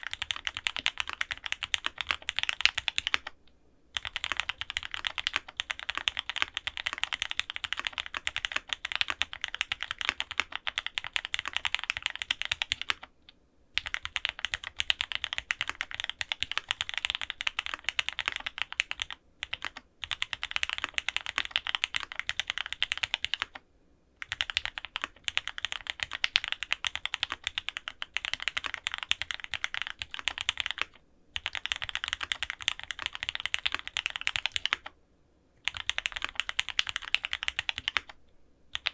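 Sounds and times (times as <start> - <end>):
mechanical keyboard typing: 0.0 - 3.4, 4.0 - 23.6, 24.2 - 34.9, 35.6 - 38.9.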